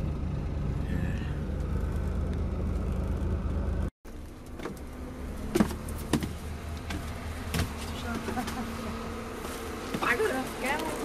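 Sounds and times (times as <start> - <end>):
diesel bus engine humming: 0.0 - 11.0.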